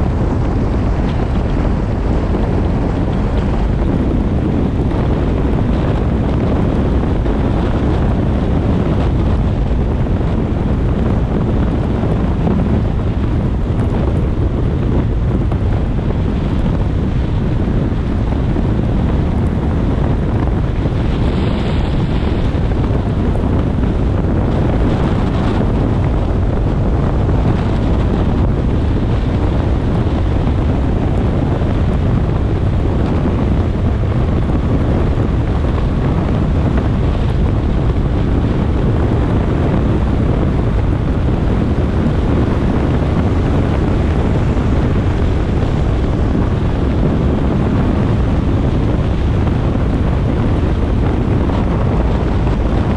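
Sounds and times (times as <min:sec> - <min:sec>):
tyre and road noise on wet road: 0:00.0 - 0:52.9
wind buffeting microphone: 0:00.0 - 0:52.9.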